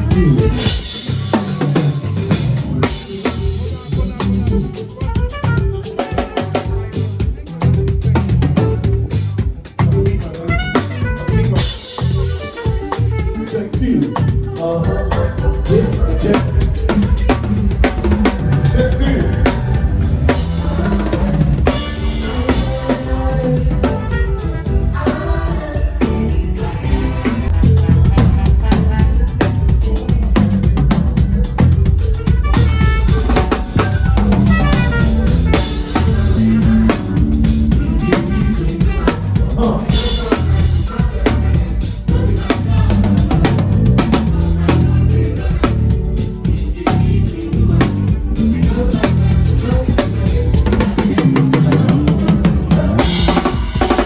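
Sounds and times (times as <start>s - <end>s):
bass line: 0.0s - 54.0s.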